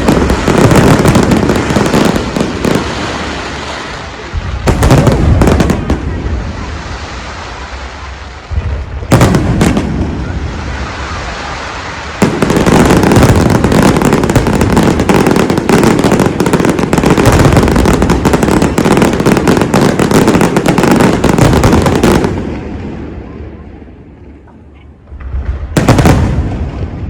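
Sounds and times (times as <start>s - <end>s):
fireworks banging: 0.0s - 7.2s, 8.5s - 23.2s, 25.0s - 27.0s.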